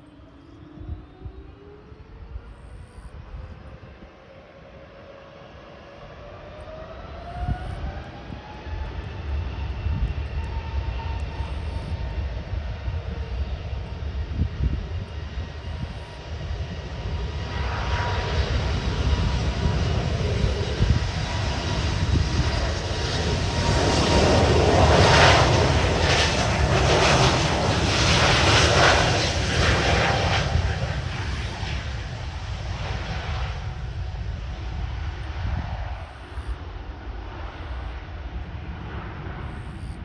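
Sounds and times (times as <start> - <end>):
jet engine whine rising: 0.0 - 40.0.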